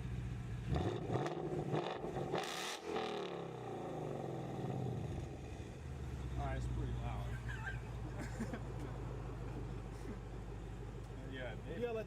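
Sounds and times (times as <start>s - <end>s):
car engine revving and idling: 0.0s - 11.8s.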